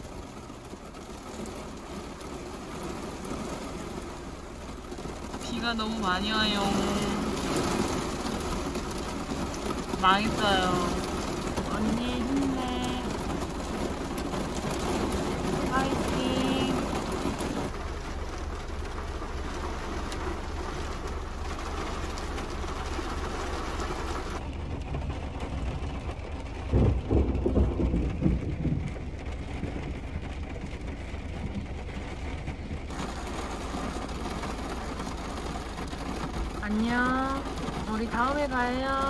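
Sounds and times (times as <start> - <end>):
heavy rain on car roof: 0.0 - 39.0.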